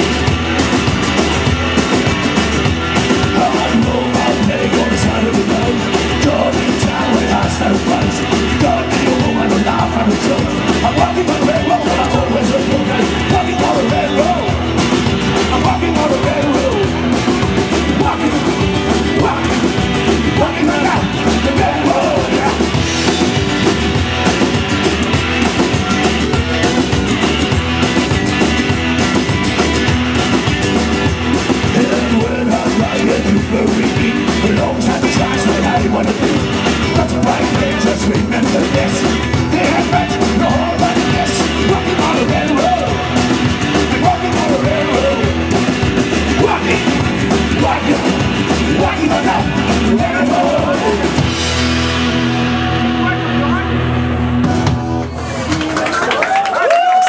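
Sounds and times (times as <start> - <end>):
live rock and roll band: 0.0 - 57.0.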